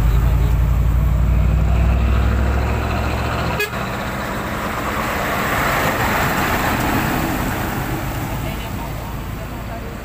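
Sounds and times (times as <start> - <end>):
diesel truck engine droning: 0.0 - 10.0
road traffic noise: 0.0 - 10.0.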